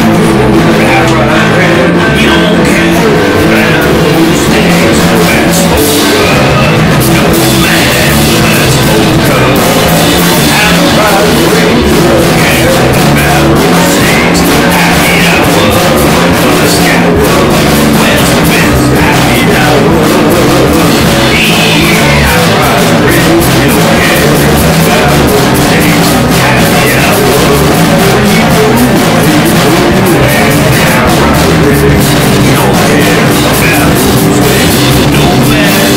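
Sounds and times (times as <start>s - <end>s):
loud hard rock music: 0.0s - 35.9s.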